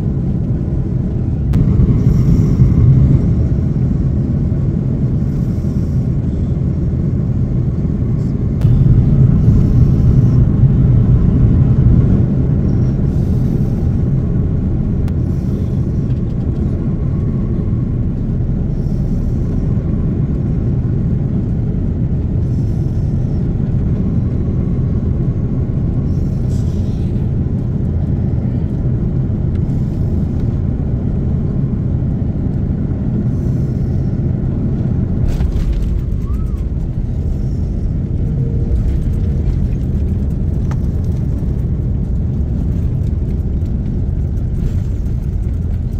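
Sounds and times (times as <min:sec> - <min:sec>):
jet engine and airflow rumble: 0:00.0 - 0:45.9.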